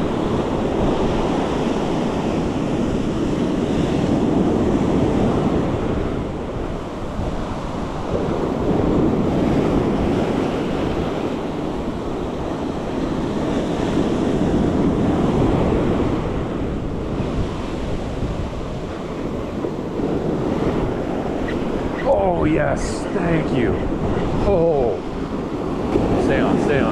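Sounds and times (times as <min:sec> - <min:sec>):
ocean surf breaking: 0:00.0 - 0:26.9.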